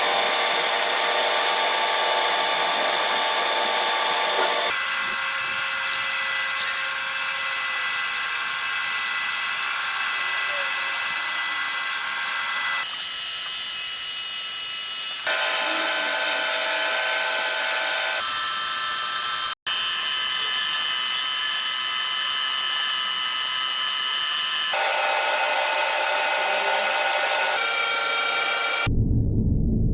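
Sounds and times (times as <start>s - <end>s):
lathe cutting metal: 0.0s - 28.9s.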